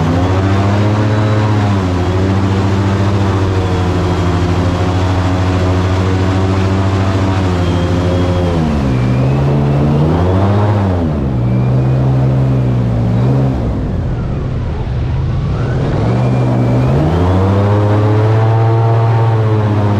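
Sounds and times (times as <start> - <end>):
outboard motor running: 0.0 - 19.9.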